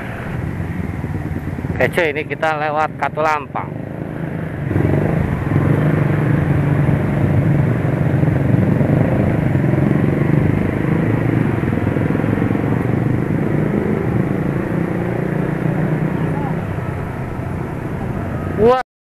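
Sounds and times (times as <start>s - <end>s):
motorcycle engine running: 0.0s - 18.8s
road and wind noise: 0.0s - 18.8s.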